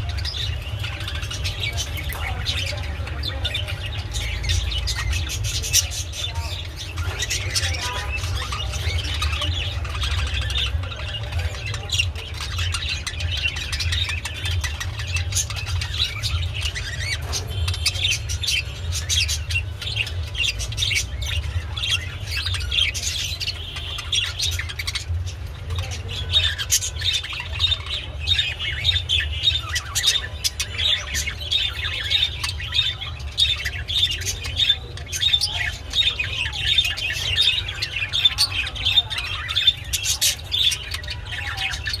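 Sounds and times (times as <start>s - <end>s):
budgerigars chattering: 0.0s - 42.0s.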